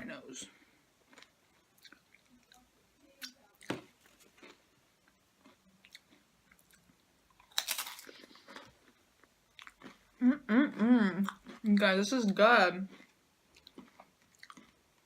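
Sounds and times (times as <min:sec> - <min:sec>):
person chewing tortilla chips: 0:01.0 - 0:02.7, 0:03.5 - 0:11.8, 0:12.8 - 0:15.0.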